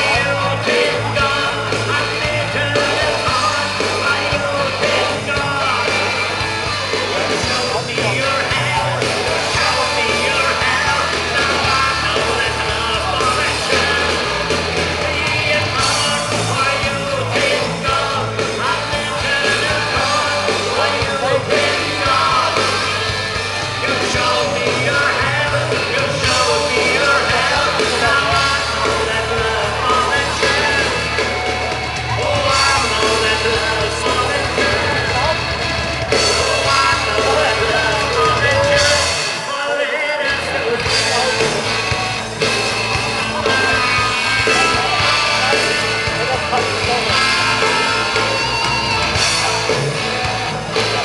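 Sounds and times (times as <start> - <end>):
live band playing amplified music: 0.0 - 51.0
person singing: 0.0 - 51.0.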